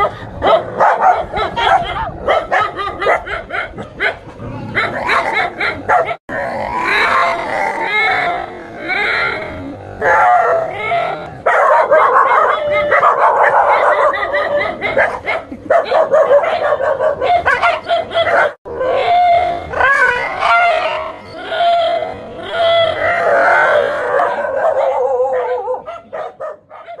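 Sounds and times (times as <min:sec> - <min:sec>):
dogs barking and yelping: 0:00.0 - 0:27.0.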